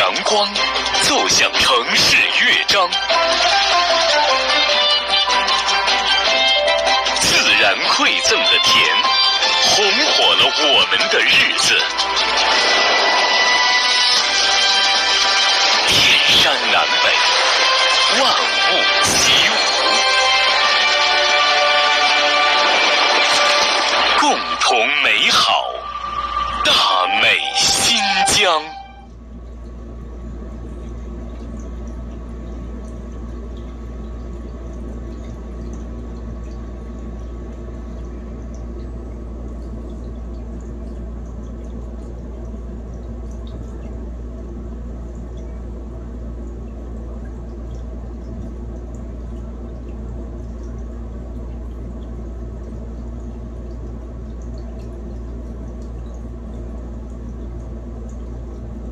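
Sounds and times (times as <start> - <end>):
electrical hum: 0.0 - 58.9.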